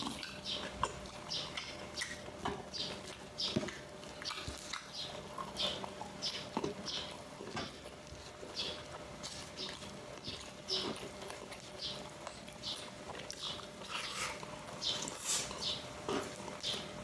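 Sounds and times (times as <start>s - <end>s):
lip smacks: 0.0s - 16.9s
wet chewing: 0.0s - 17.0s.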